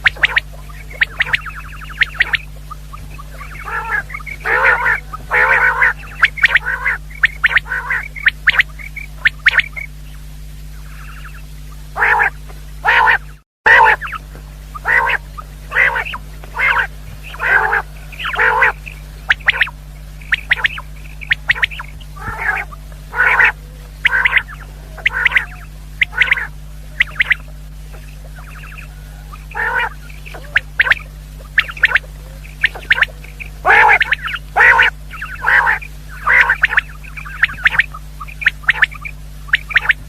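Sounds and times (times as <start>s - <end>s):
quail calling: 0.0s - 40.0s.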